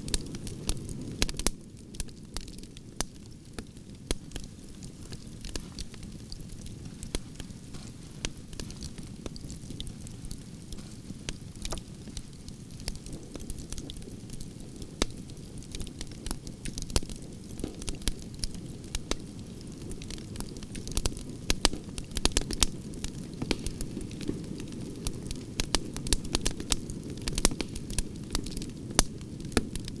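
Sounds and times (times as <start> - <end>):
fire crackling and popping: 0.0 - 30.0
fire low rumble: 0.0 - 30.0.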